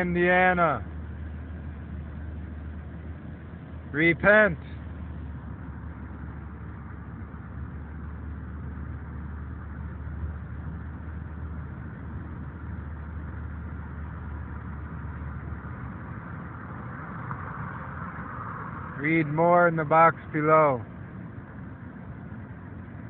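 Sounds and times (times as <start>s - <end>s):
car engine low hum: 0.0s - 23.0s
road noise hiss: 0.0s - 23.0s.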